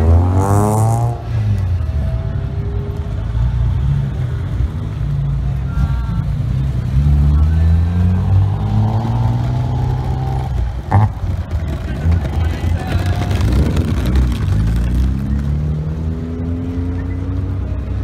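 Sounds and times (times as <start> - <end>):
car engines running at low speed: 0.0 - 18.0.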